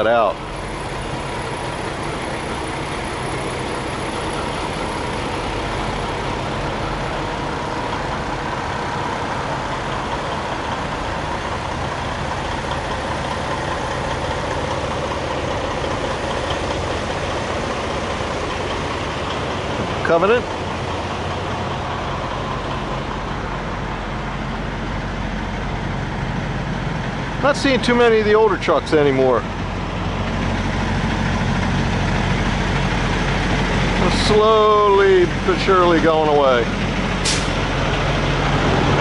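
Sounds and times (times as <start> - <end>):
diesel truck engines idling: 0.0 - 39.0.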